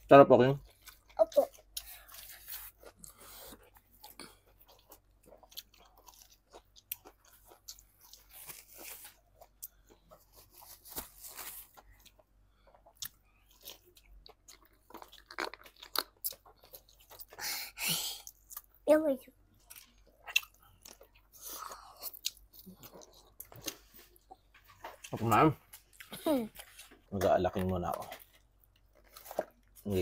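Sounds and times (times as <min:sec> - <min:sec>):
crunchy eating and chewing: 0:00.5 - 0:18.8, 0:19.6 - 0:30.0.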